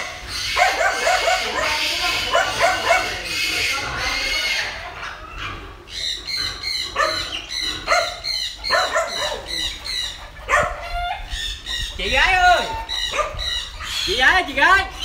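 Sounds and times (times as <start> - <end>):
piglets squealing: 0.0 - 15.0.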